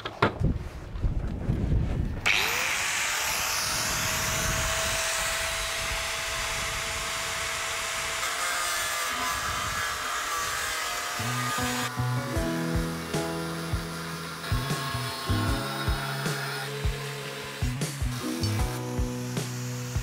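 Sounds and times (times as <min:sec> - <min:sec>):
grinder cutting steel: 0:02.2 - 0:20.0
angle grinder whining: 0:02.3 - 0:20.0.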